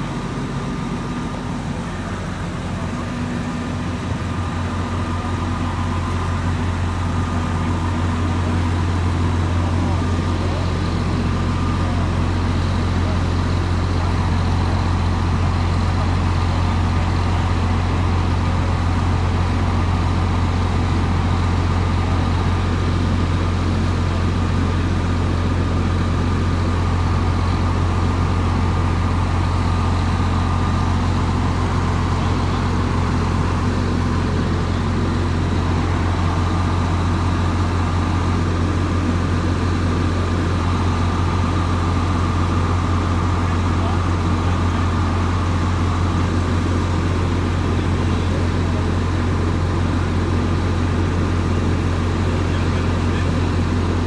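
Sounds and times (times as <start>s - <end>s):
diesel engine at high idle: 0.0s - 54.0s.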